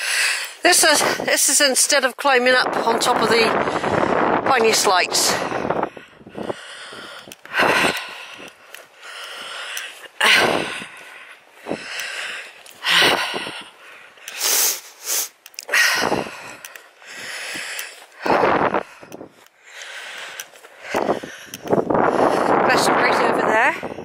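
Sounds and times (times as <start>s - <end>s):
person breathing heavily: 0.0s - 1.3s, 3.5s - 4.4s, 5.0s - 24.0s.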